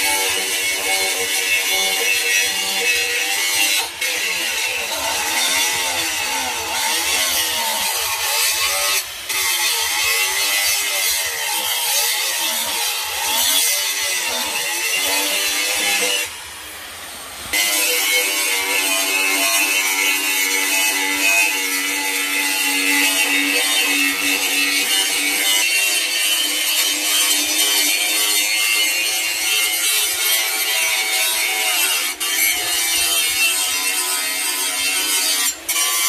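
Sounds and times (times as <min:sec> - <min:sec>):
angle grinder cutting steel: 0:00.0 - 0:36.0.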